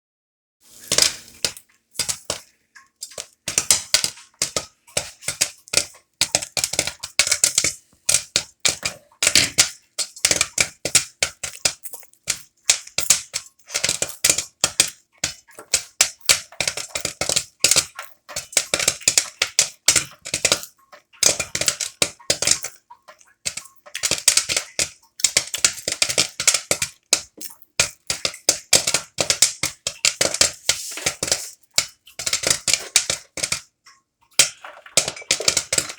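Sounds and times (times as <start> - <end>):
popcorn popping: 0.7 - 35.9.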